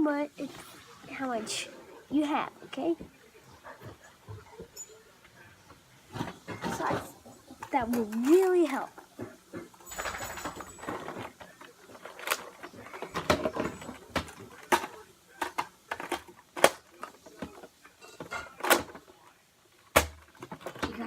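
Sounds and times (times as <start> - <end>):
soft rattling and shuffling: 0.3 - 19.4.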